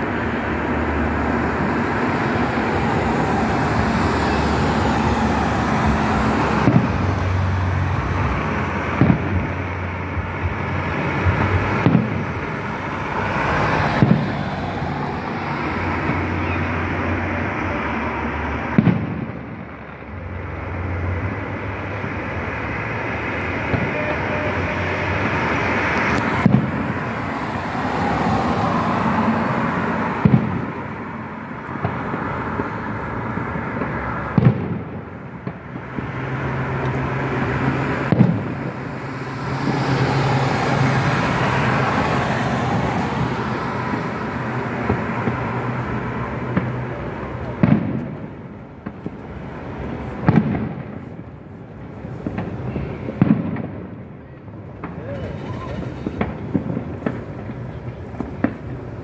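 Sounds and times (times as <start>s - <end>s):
fireworks bursting with sharp bangs: 0.0s - 59.0s
road traffic passing: 0.0s - 59.0s.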